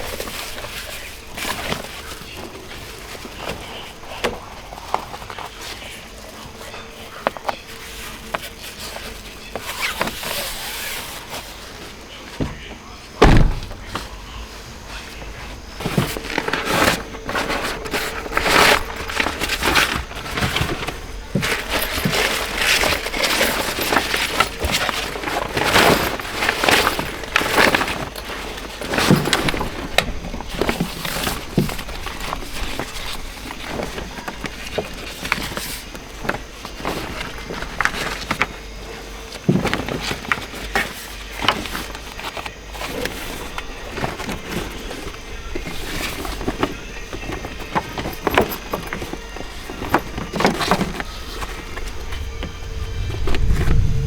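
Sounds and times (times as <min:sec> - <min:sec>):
camping gear knocks and clicks: 0:00.0 - 0:53.8.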